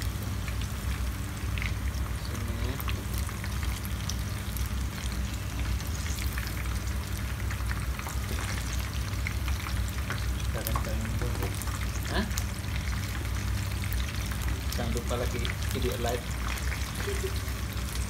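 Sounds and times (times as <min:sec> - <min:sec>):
low steady hum: 0:00.0 - 0:18.0
shrimp sizzling in oil: 0:00.0 - 0:18.0.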